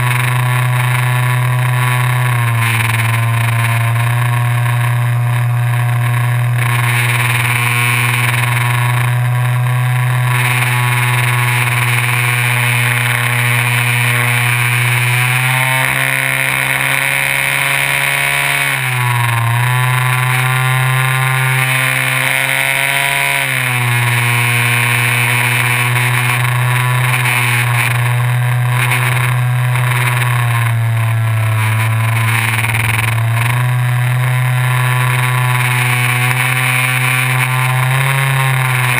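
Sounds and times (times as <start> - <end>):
electric motor and propeller buzzing: 0.0 - 38.9.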